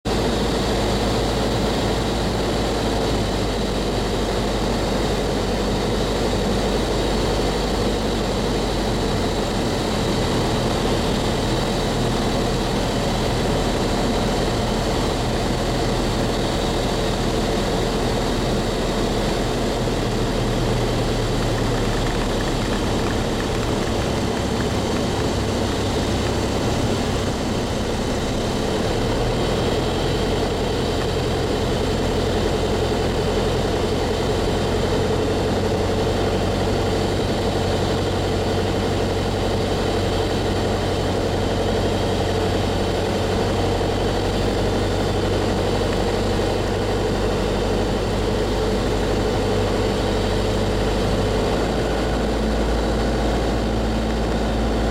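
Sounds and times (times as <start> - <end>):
light aircraft engine drone: 0.1 - 54.9.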